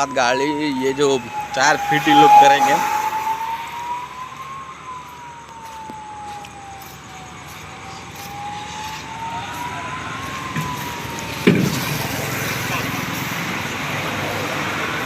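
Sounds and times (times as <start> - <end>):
siren wailing: 0.0 - 15.0
traffic noise: 0.0 - 15.0.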